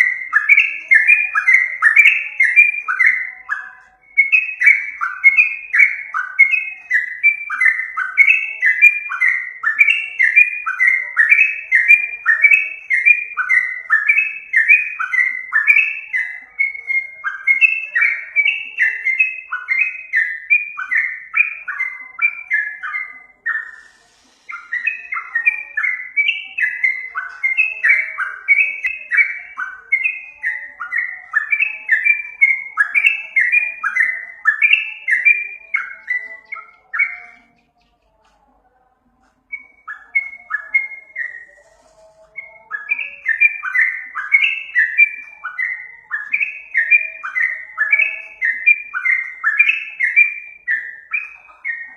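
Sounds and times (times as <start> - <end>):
bird singing bubbly whistled notes: 0.0 - 37.8, 39.5 - 51.9.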